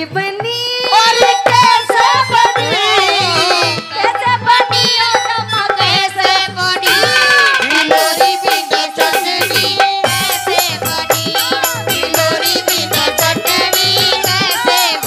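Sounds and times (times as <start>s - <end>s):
woman singing into a microphone: 0.0s - 15.0s
hand drum beat: 0.4s - 15.0s.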